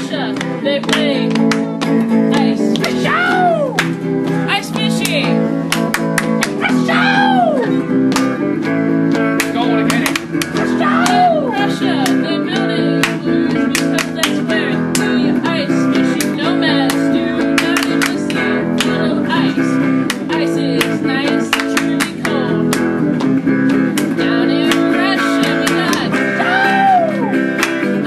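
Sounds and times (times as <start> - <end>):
guitar strumming chords: 0.0 - 28.0.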